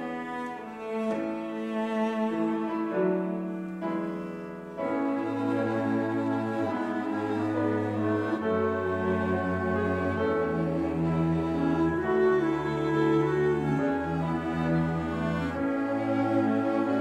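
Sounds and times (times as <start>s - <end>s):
cellos playing: 0.0s - 17.0s
chamber ensemble playing hymn: 0.0s - 17.0s.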